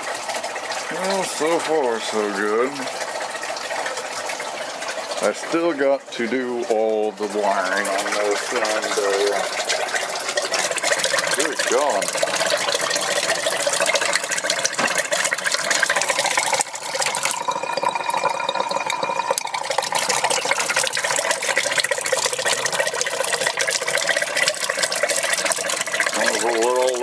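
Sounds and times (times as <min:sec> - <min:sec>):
water gushing from tap: 0:00.0 - 0:27.0.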